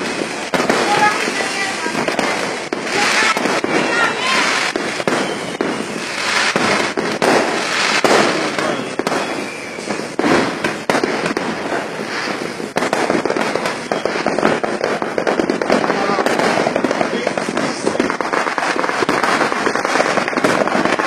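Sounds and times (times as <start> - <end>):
firecracker bangs: 0.0 - 21.0
fireworks crackling: 0.0 - 21.0.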